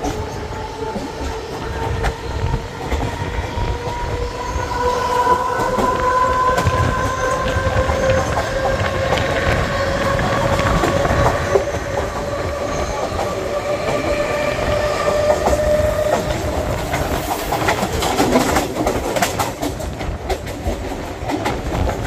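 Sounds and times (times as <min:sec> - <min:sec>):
train rumble: 0:00.0 - 0:22.0
train whine: 0:00.0 - 0:22.0
wheels clicking on track: 0:00.0 - 0:22.0.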